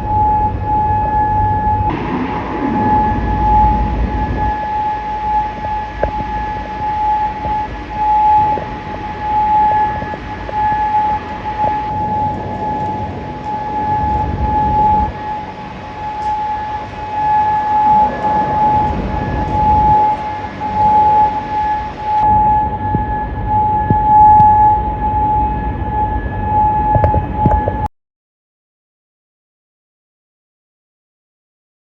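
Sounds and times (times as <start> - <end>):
air raid siren steady tone: 0.0 - 27.9
low rumbling background: 0.0 - 27.9.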